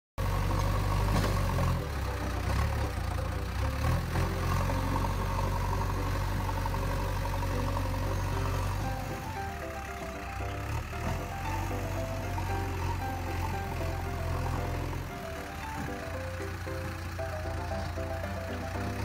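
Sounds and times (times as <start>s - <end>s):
heavy engine idling: 0.2s - 19.0s.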